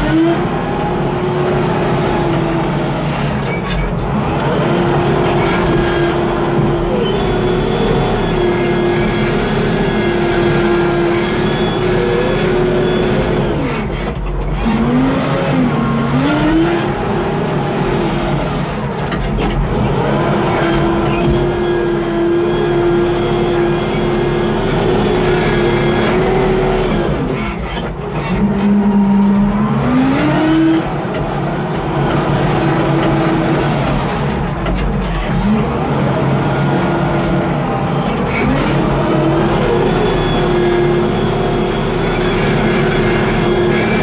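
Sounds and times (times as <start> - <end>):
diesel engine under load: 0.0 - 44.0.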